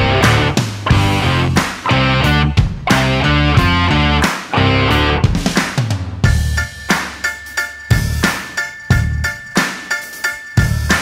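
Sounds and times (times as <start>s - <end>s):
drum-kit beat: 0.0s - 11.0s.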